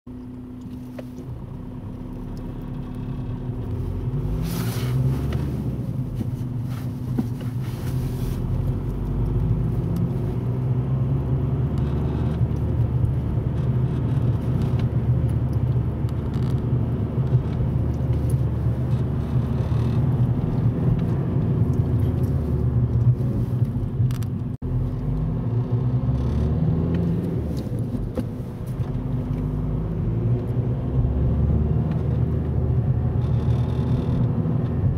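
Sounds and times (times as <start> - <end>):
diesel car engine under load: 0.1 - 34.9.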